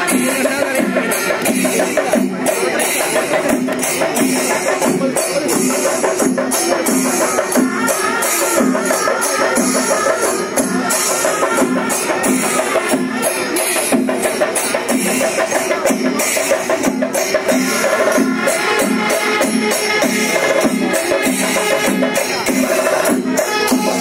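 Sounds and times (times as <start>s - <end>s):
drums beating steady rhythm: 0.0s - 24.0s
hand cymbals clashing: 0.0s - 24.0s.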